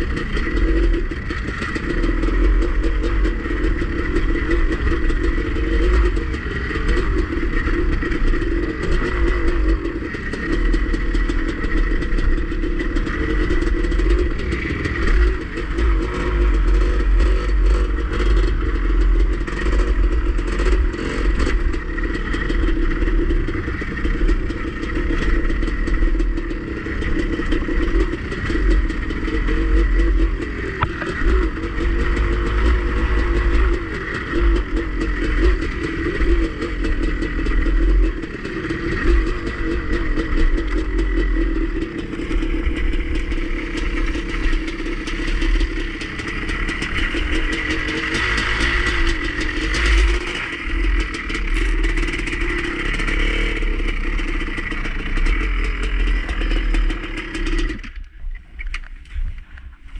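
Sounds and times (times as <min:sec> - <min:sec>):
dirt bike engine running: 0:00.0 - 0:59.9
heavy low rumble: 0:00.0 - 0:59.9.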